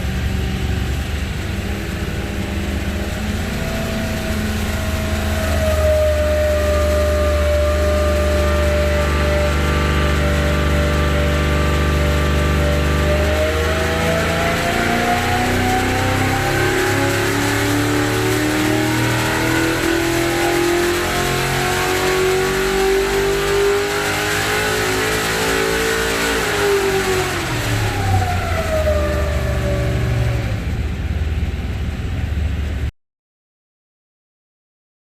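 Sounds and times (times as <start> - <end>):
racing engine revving: 0.0 - 32.9.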